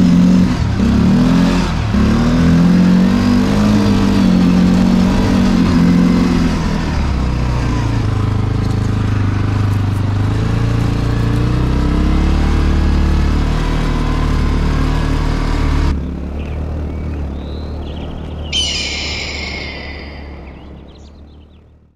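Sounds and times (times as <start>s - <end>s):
single-cylinder engine running: 0.0s - 18.6s.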